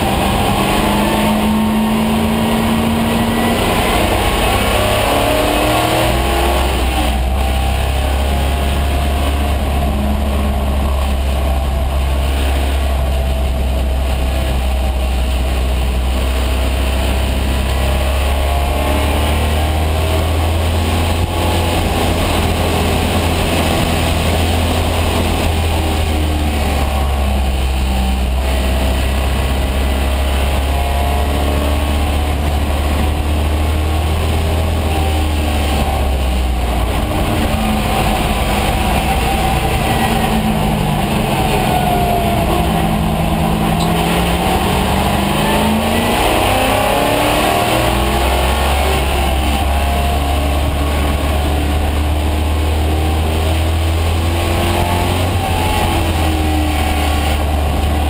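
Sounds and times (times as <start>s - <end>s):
car engine droning under load: 0.0s - 58.0s
road noise: 0.0s - 58.0s
wind noise: 0.0s - 58.0s.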